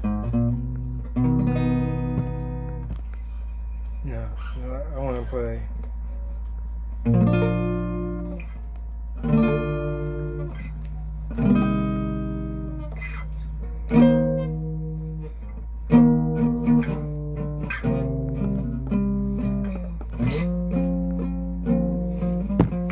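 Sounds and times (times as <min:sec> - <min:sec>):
acoustic guitar chords strummed: 0:00.0 - 0:04.0, 0:05.8 - 0:22.9
steady low hum: 0:00.0 - 0:22.9.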